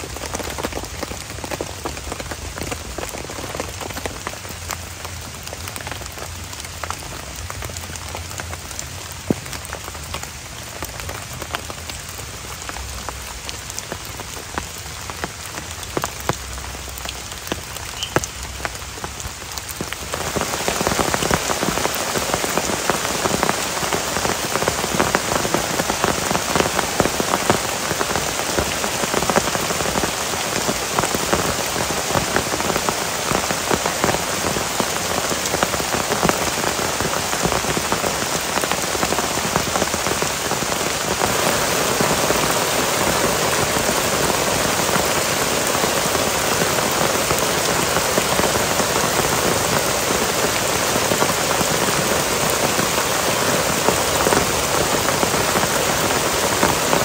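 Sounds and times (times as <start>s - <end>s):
rain falling on a tent: 0.0s - 57.0s.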